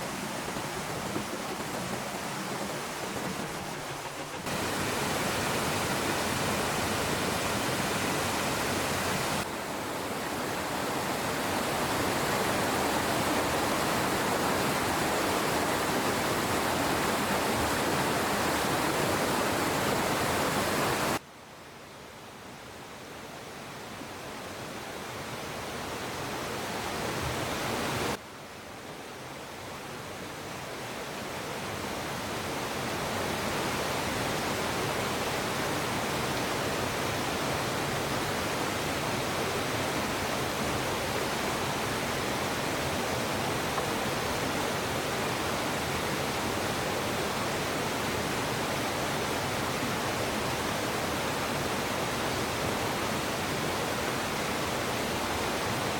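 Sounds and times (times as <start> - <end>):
rushing stream water: 0.0 - 21.2, 22.6 - 55.9.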